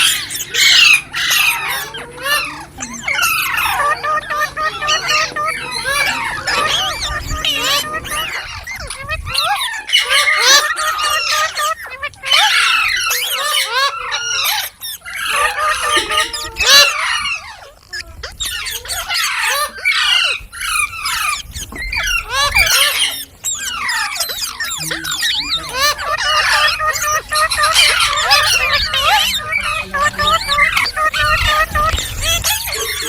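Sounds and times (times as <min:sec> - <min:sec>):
parrots squawking and screeching: 0:00.0 - 0:33.0.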